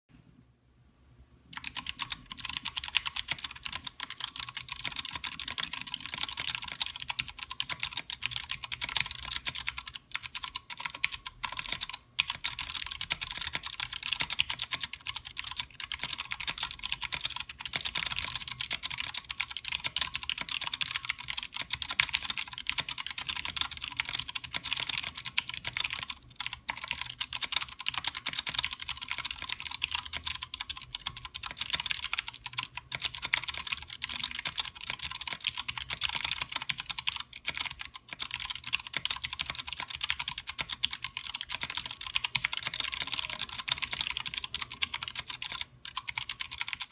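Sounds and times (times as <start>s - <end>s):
mechanical keyboard typing: 1.5s - 46.9s.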